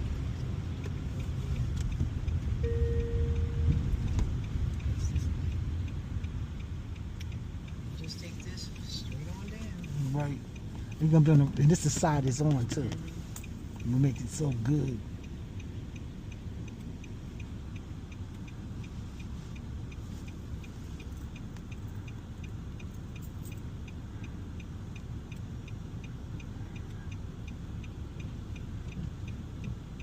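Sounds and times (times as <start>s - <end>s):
car engine and tyres rumbling: 0.0s - 30.0s
indicator relay ticking: 0.1s - 30.0s.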